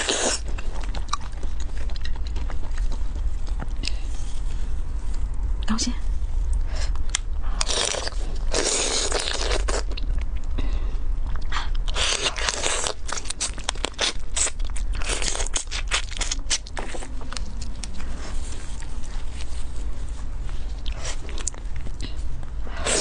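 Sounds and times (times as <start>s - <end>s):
crunching and chewing: 0.0s - 4.2s, 6.5s - 23.0s
steady low hum: 0.0s - 23.0s.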